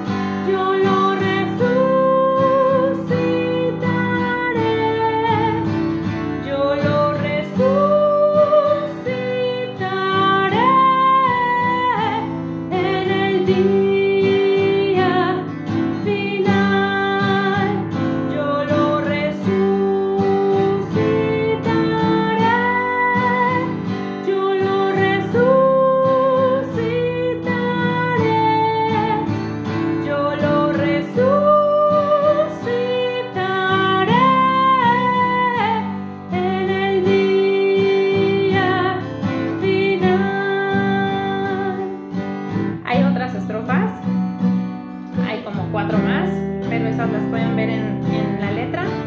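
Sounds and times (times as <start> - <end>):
strummed acoustic guitar: 0.0 - 49.0
woman singing a hymn: 0.3 - 5.8, 6.4 - 42.1, 42.8 - 44.0, 45.2 - 49.0.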